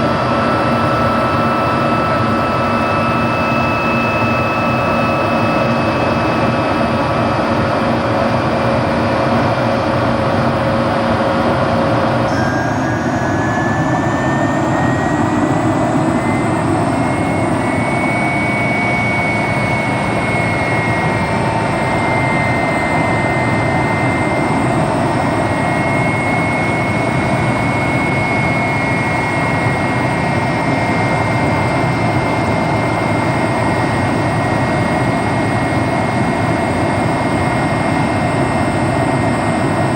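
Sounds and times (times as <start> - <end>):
helicopter engine and rotor: 0.0 - 39.9
whine rising in pitch: 0.0 - 39.9.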